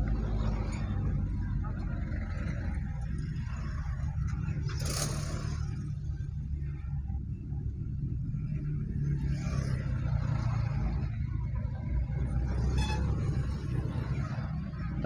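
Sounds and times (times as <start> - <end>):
car engine and tyre rumble: 0.0 - 15.0
traffic noise: 0.0 - 15.0.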